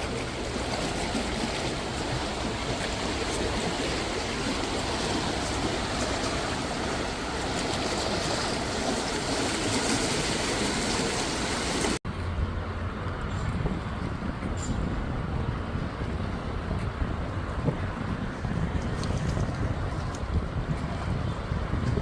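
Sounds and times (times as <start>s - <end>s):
water rushing under a bridge: 0.0s - 22.0s.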